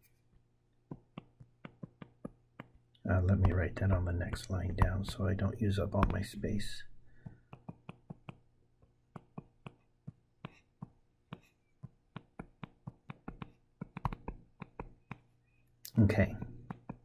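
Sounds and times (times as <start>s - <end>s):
stylus tapping on tablet screen: 0.9s - 15.3s, 16.1s - 17.0s.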